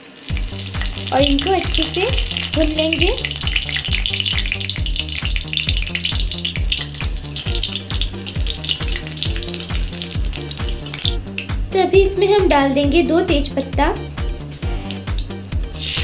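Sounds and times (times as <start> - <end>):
spices sizzling in hot oil: 0.0 - 16.0
background music with beat: 0.3 - 16.0.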